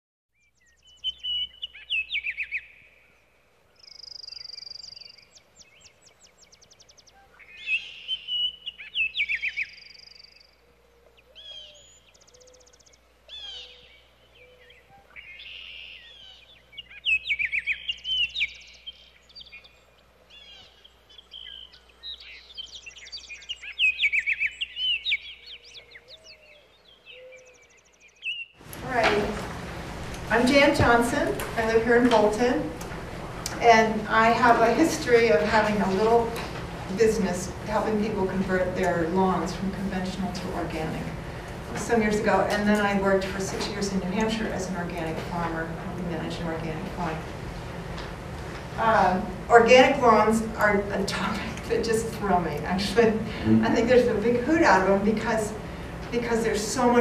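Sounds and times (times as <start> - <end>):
songbirds singing: 0.3 - 57.0.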